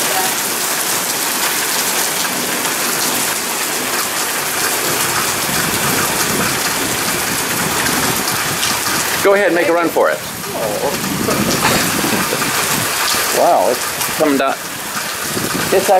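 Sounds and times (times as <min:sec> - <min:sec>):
heavy rain on pavement: 0:00.0 - 0:15.9.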